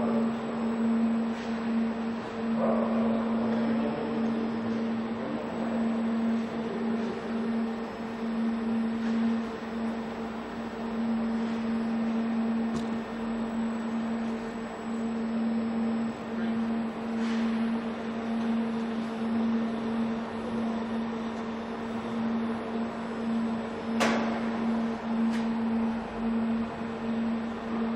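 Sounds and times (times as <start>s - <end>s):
electrical hum: 0.0s - 27.9s.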